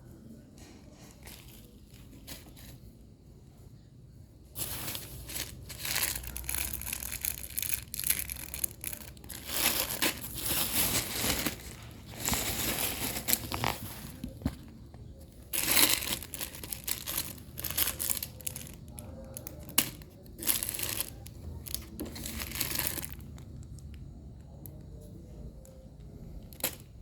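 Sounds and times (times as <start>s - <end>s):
crinkling wrapping material: 0.1s - 3.1s, 4.5s - 27.0s.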